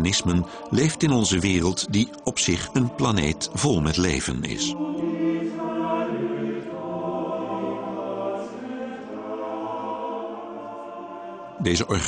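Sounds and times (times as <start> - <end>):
slow choir-like background music: 0.0 - 12.0.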